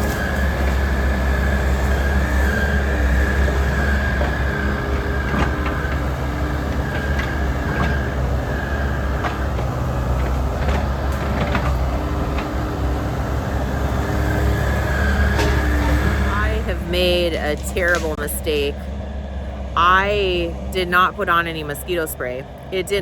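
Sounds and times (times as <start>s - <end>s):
excavator diesel engine under load: 0.0s - 23.0s
hydraulic whine: 0.0s - 23.0s.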